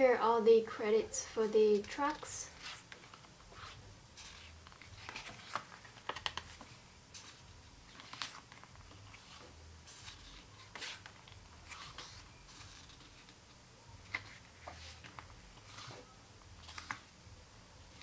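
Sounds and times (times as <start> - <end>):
paper pages rustling: 1.7 - 13.4, 14.0 - 17.1.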